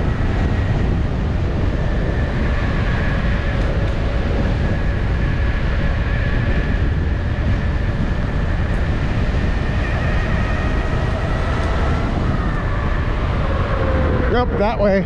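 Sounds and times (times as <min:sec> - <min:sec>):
high whine of hub motor: 0:00.0 - 0:15.0
wind rushing over microphone: 0:00.0 - 0:15.0.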